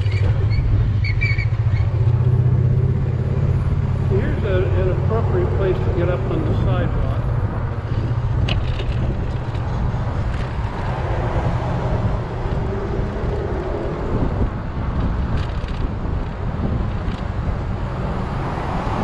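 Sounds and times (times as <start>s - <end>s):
road traffic noise: 0.0s - 19.0s
vehicle passing: 0.0s - 19.0s
wind on microphone: 0.0s - 19.0s.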